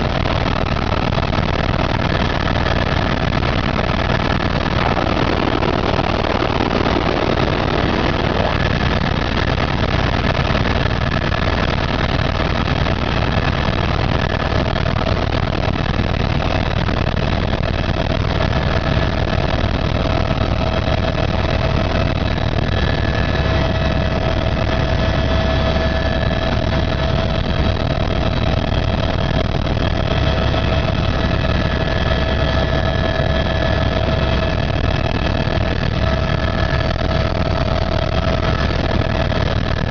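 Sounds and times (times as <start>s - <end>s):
helicopter engine and rotor drone: 0.0s - 39.9s
high whine: 0.0s - 39.9s.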